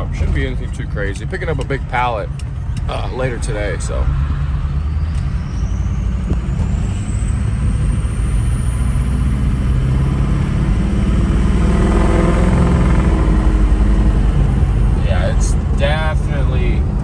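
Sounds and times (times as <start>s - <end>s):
deep diesel exhaust growl: 3.0s - 17.0s.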